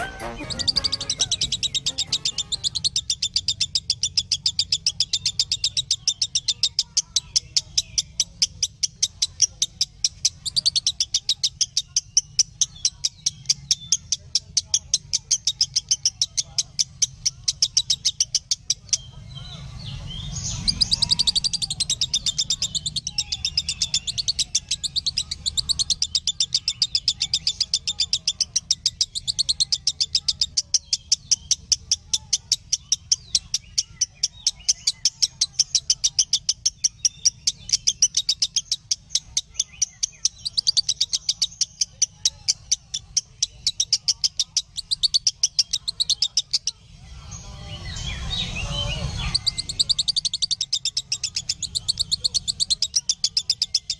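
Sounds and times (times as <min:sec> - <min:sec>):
lovebird chirping: 0:00.0 - 0:53.9.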